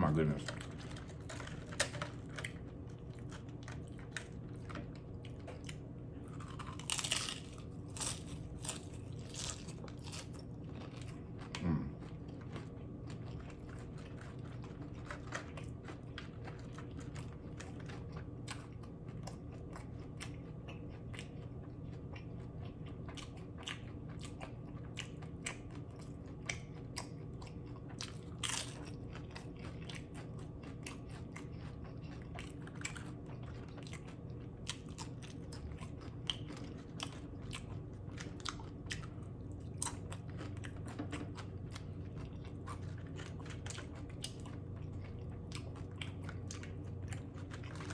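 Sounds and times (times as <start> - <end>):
chewing crunchy tortilla chips: 0.0 - 47.9
steady low hum: 0.0 - 47.9.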